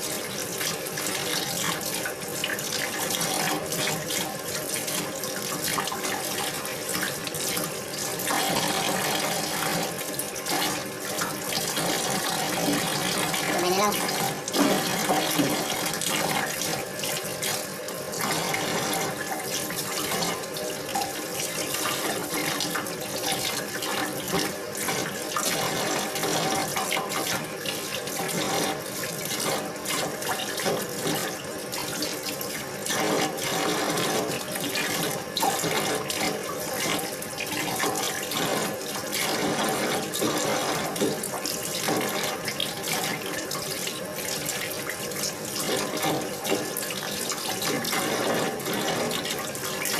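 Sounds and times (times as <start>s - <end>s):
tap water running into sink: 0.0s - 49.9s.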